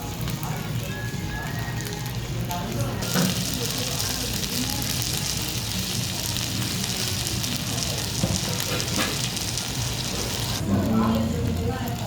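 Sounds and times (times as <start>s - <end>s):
chicken sizzling: 0.0s - 12.0s.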